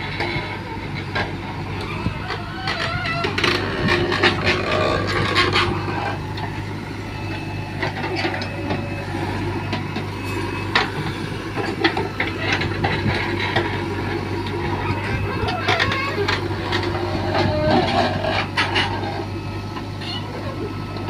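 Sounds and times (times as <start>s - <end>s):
backhoe diesel engine running: 0.0s - 21.0s.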